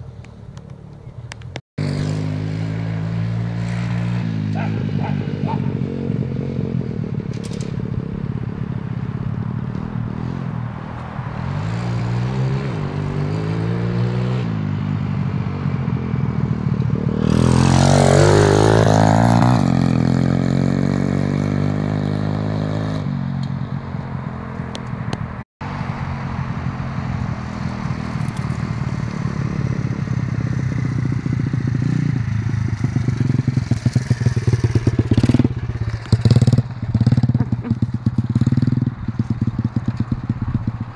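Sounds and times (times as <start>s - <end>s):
motorbike engine revving: 1.8s - 23.4s, 25.6s - 40.9s.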